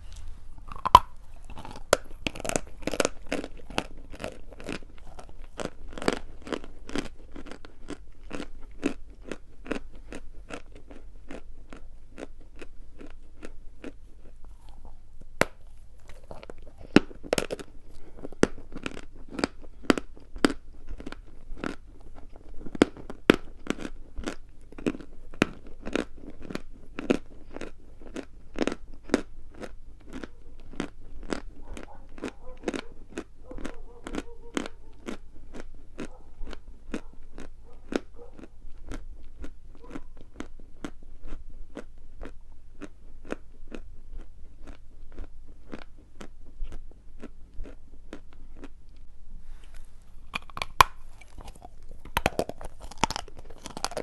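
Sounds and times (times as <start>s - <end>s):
person crunching chalk: 0.0s - 48.7s, 49.5s - 54.0s.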